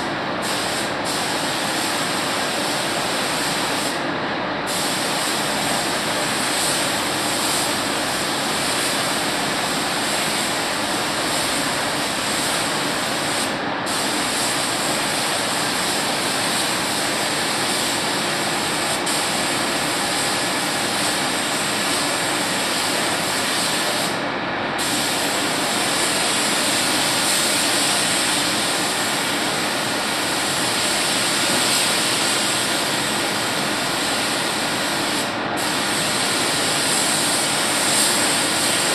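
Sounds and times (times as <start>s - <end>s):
paint spray gun hissing: 0.4s - 3.9s, 4.7s - 24.2s, 24.8s - 38.9s.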